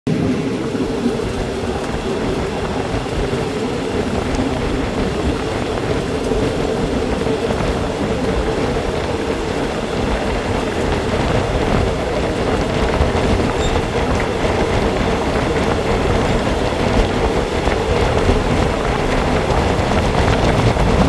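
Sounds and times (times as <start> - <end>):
rushing air: 0.1 - 21.0
train wheels rumbling on rails: 0.1 - 21.0.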